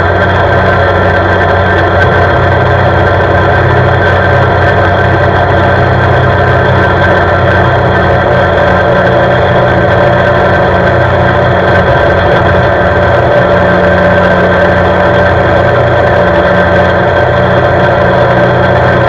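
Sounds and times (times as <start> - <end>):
atv engine running steadily: 0.0 - 19.0.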